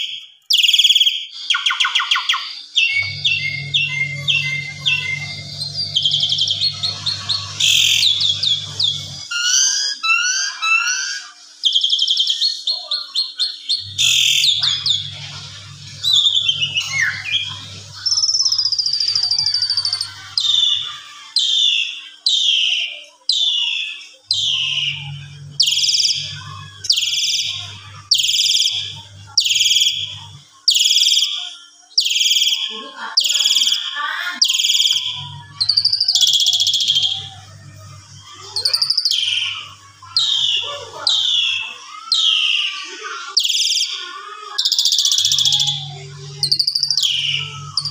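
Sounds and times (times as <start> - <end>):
starling singing: 0.0 - 47.9.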